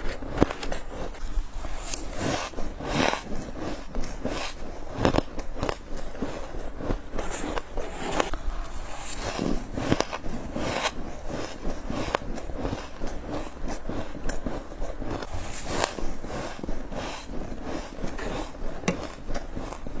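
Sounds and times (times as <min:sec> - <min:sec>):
biting crunchy frost: 0:00.0 - 0:19.9.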